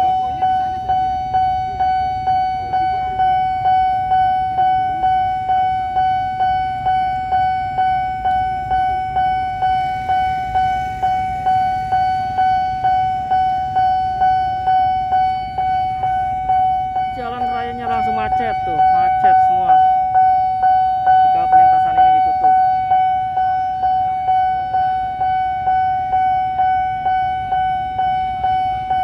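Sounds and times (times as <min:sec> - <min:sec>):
level crossing warning bell: 0:00.0 - 0:29.0.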